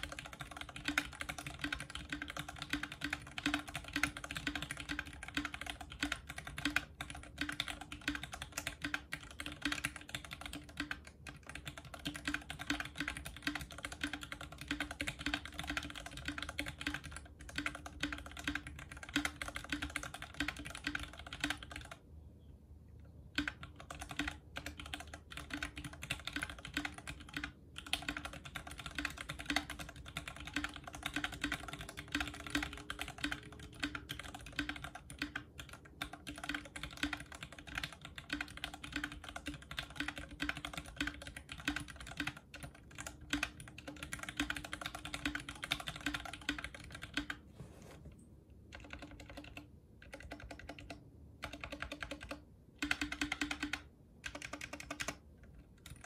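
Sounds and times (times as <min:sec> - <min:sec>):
fast mechanical keyboard typing: 0:00.0 - 0:22.0, 0:23.3 - 0:47.4, 0:48.7 - 0:56.0.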